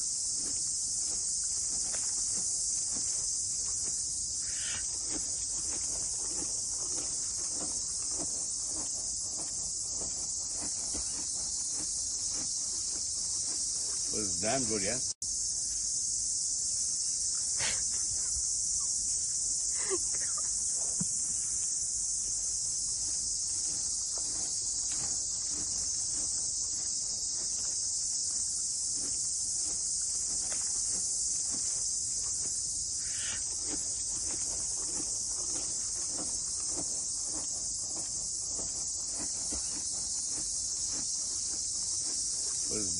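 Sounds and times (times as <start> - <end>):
crickets chirring: 0.0 - 42.9.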